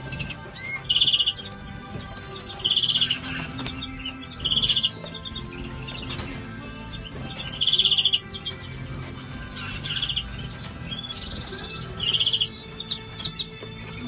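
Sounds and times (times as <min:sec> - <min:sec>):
cage birds chirping: 0:00.0 - 0:14.0.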